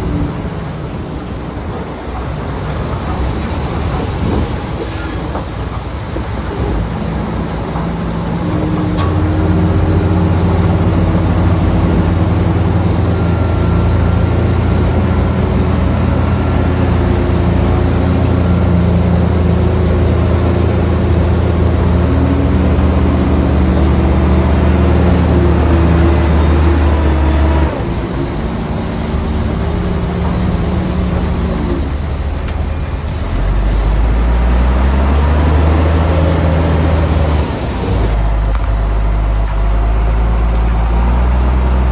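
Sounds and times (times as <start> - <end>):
heavy diesel engine under load: 0.0 - 41.9.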